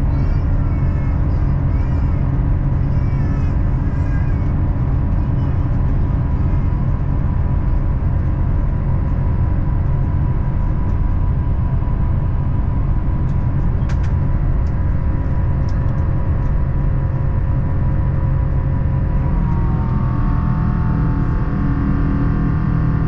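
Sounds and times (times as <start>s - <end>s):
airliner cabin rumble: 0.0s - 23.0s
faint whine: 0.0s - 23.0s.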